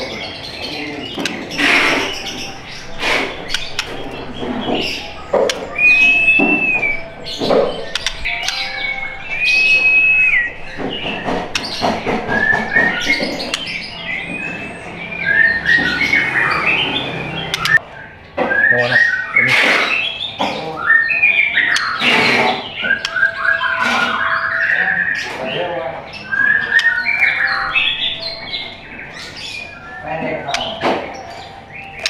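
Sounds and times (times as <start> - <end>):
harsh noisy bird notes: 0.0 - 32.0
bird singing whistles: 4.6 - 17.8, 18.4 - 25.4, 26.2 - 32.0.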